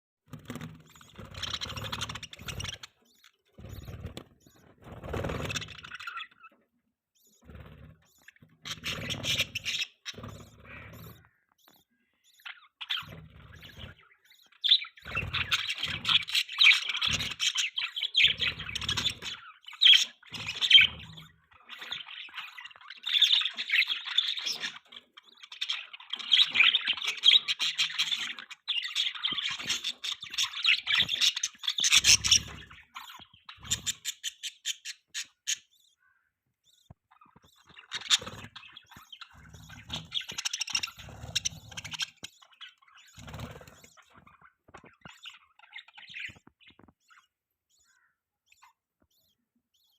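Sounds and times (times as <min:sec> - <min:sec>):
budgerigars chattering and warbling: 0:00.3 - 0:49.9.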